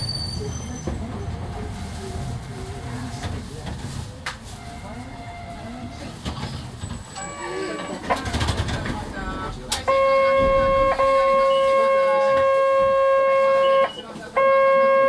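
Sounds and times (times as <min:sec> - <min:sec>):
voices at tram stop: 0:00.0 - 0:15.0.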